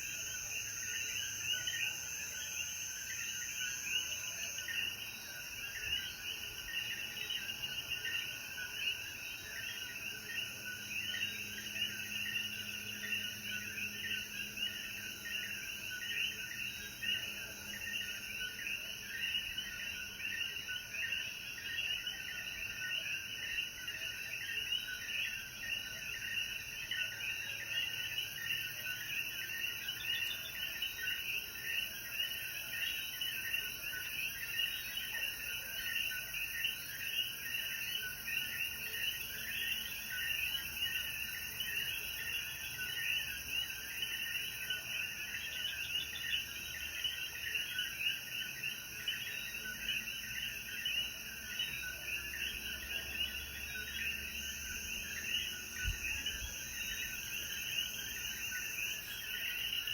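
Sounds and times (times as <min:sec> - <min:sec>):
frogs chorus calling: 0:00.0 - 0:59.9.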